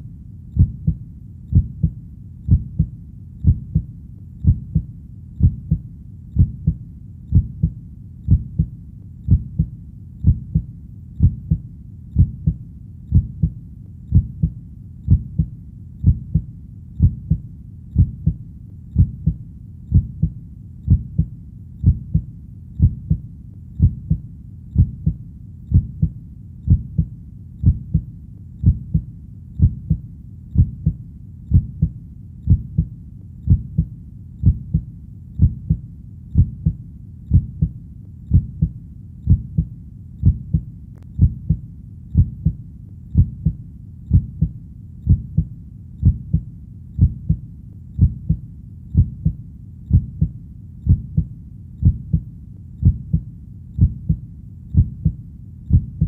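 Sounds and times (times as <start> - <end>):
faint steady rumble: 0.0 - 56.0
heartbeat double thump: 0.6 - 5.8, 6.4 - 8.7, 9.3 - 11.6, 12.2 - 17.4, 19.0 - 23.2, 23.8 - 24.2, 24.8 - 30.0, 30.6 - 32.9, 33.5 - 35.8, 36.4 - 41.6, 42.2 - 42.6, 43.2 - 46.4, 47.0 - 47.4, 48.0 - 48.4, 49.0 - 50.3, 50.9 - 53.2, 53.8 - 54.2, 54.8 - 56.0.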